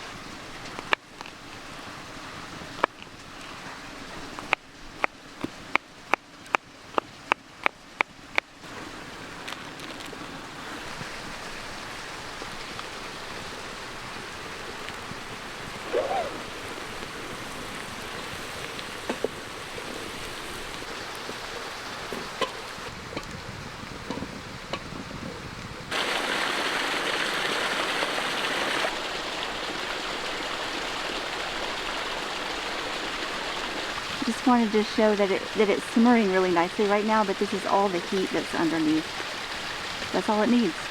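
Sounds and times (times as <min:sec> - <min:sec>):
creek running: 0:00.0 - 0:23.4, 0:25.8 - 0:40.9.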